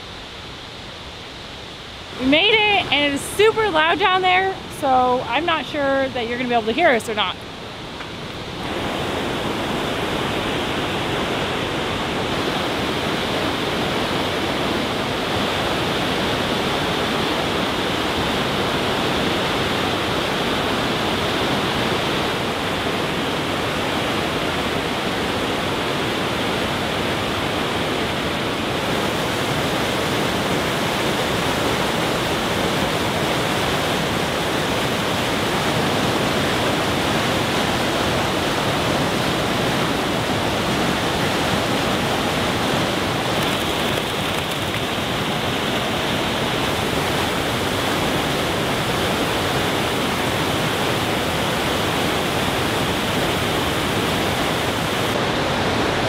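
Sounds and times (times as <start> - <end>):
whitewater rushing over rocks: 0.0 - 56.0.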